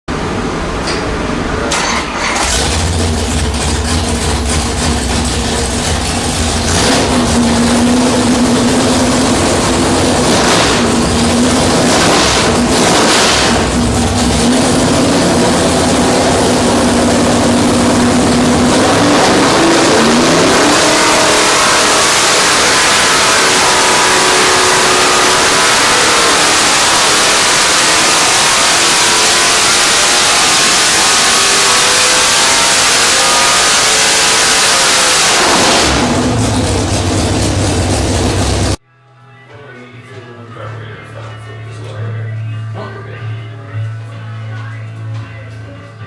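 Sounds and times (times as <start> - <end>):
engine running on dyno: 0.1 - 38.8.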